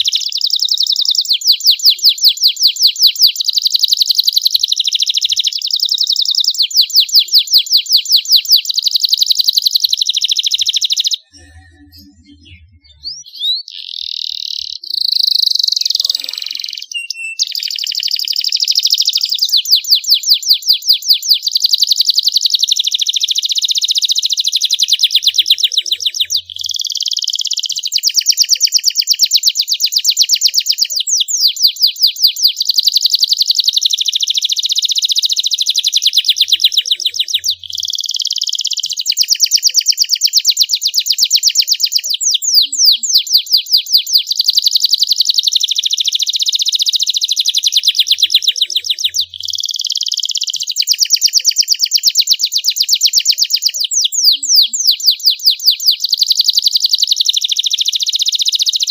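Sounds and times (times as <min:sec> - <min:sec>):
canary singing rapid trills: 0:00.0 - 0:58.9.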